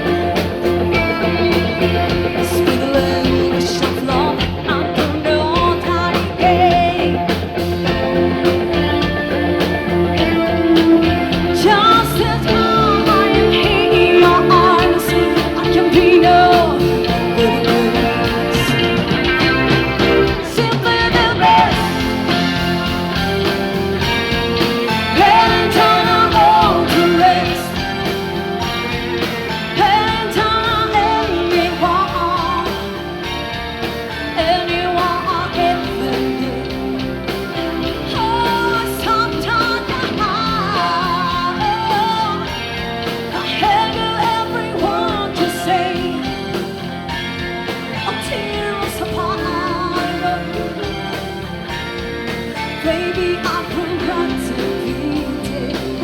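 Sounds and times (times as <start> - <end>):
loud pop-rock band music: 0.0 - 56.0.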